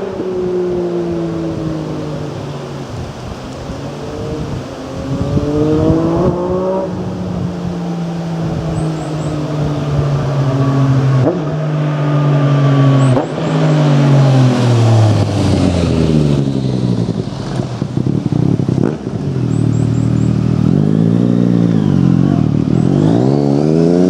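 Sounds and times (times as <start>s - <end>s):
motorcycle engine revving: 0.0s - 24.0s
waterfall rushing: 0.0s - 24.0s.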